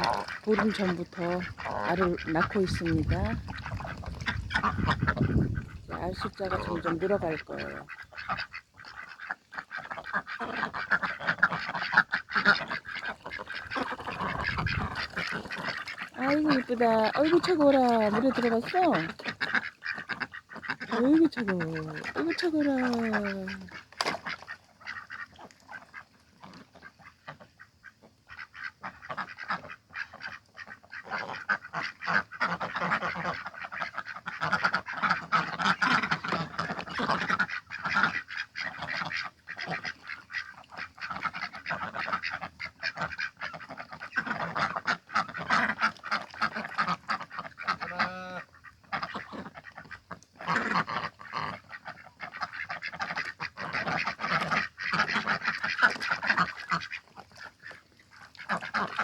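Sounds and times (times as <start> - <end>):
ducks quacking: 0.0 - 59.0.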